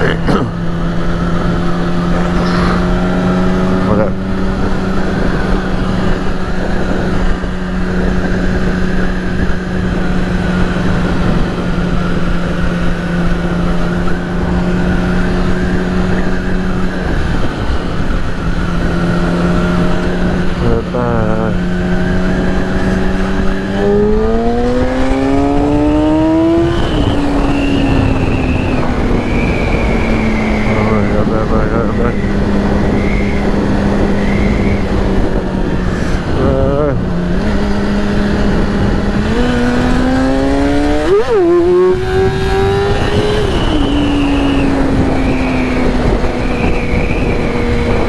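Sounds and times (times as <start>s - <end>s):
motorcycle engine cruising: 0.0s - 48.0s
wind rush: 0.0s - 48.0s.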